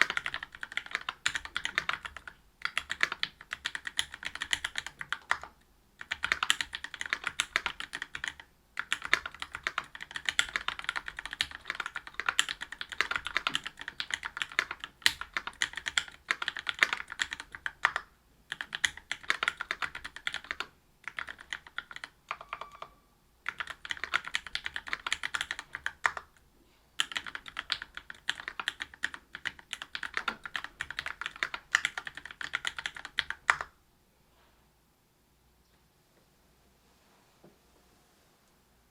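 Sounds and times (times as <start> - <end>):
mechanical keyboard typing: 0.0 - 26.3, 27.0 - 33.7.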